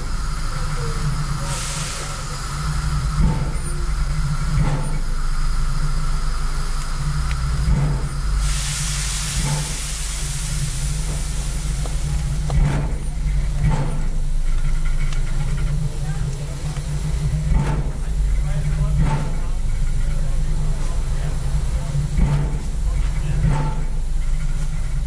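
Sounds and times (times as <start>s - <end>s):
steam hissing: 0.0s - 25.0s
steam locomotive rumble: 0.0s - 25.0s.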